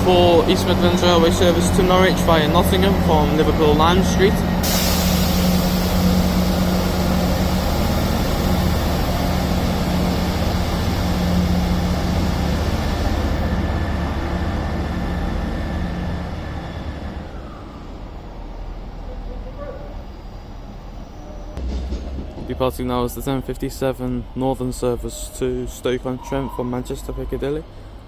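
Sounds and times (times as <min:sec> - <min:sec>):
diesel train engines droning: 0:00.0 - 0:28.0.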